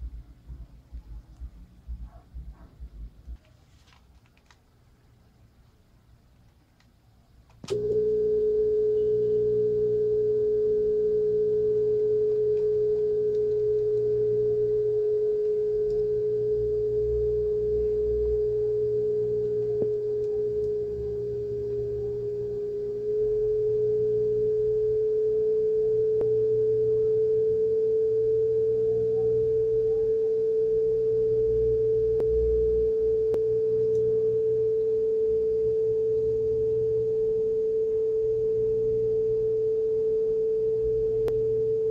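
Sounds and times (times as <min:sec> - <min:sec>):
sine test tone from cassette: 0:07.6 - 0:41.9.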